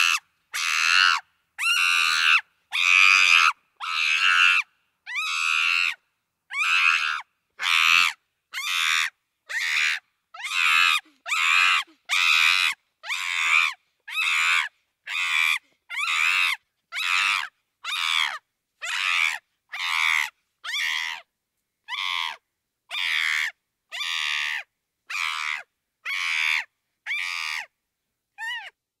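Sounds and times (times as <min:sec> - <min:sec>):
chimpanzee screaming: 0:00.0 - 0:21.2, 0:21.9 - 0:27.7.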